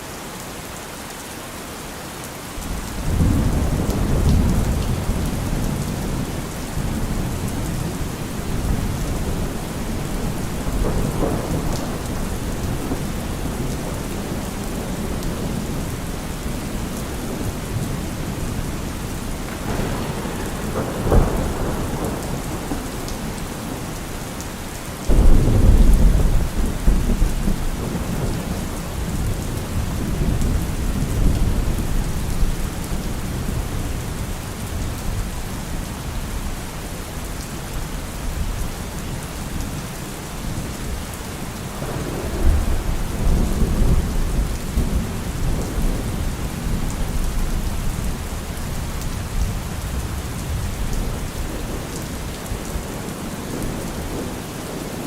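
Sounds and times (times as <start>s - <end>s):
heavy rain on a car roof: 0.0s - 55.0s
thunder rumbling: 2.6s - 36.3s, 41.7s - 55.0s.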